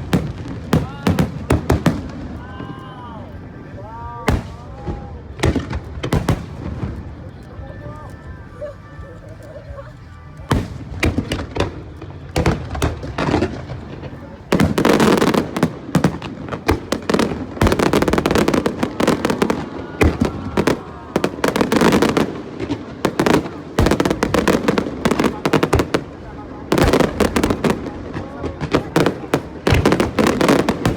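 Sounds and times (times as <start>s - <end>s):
fireworks bangs and crackles: 0.0s - 30.9s.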